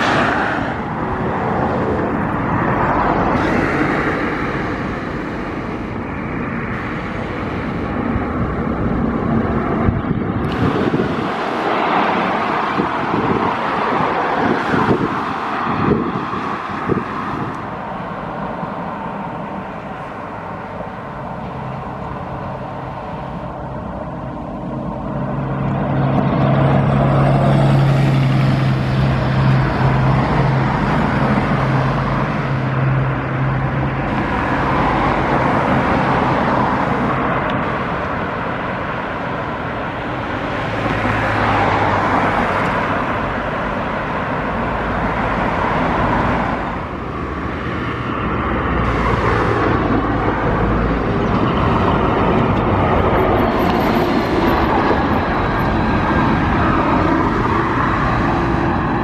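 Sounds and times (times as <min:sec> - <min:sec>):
buses driving past: 0:00.0 - 0:59.0
road and traffic noise: 0:00.0 - 0:59.0.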